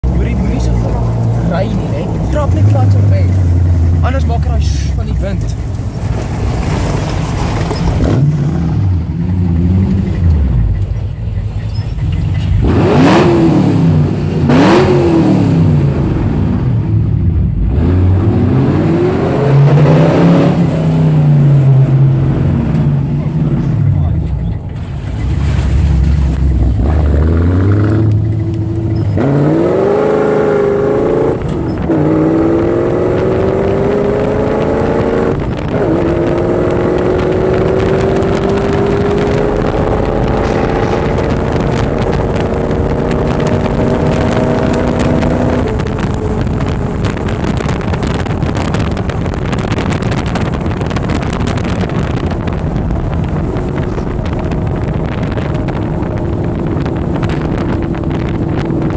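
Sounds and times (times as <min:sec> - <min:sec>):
wind and road noise: 0:00.0 - 0:58.9
engine accelerating through gears: 0:11.7 - 0:58.9.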